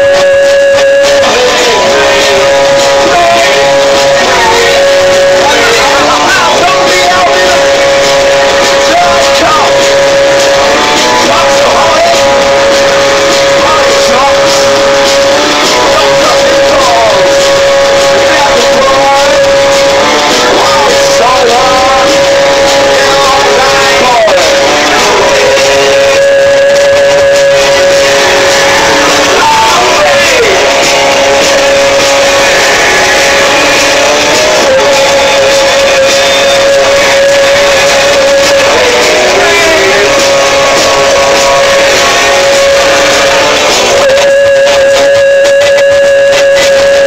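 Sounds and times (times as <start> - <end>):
drum and cymbal hits: 0.0 - 47.0
live band playing loud music: 0.0 - 47.0.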